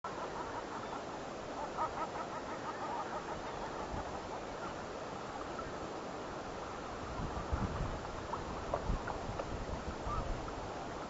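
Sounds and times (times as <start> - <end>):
distant flock of birds calling: 0.1 - 11.0
steady background noise: 0.1 - 11.0.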